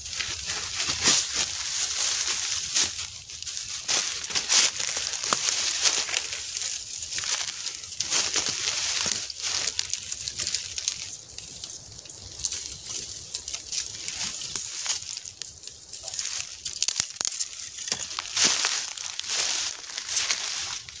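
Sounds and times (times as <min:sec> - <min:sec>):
crinkly rustling: 0:00.0 - 0:21.0.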